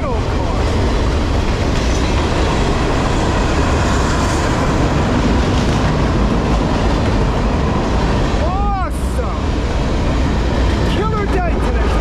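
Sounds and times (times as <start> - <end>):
steel wheels rumbling on rails: 0.0 - 12.0.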